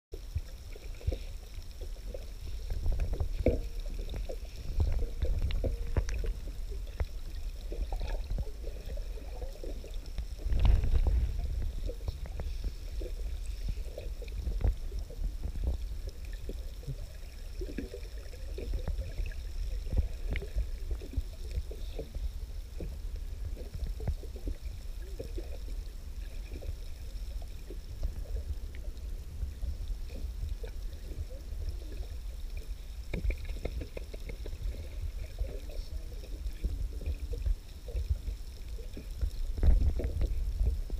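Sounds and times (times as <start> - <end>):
muffled underwater rumble: 0.1 - 40.9
underwater clicks and crackles: 0.2 - 40.9.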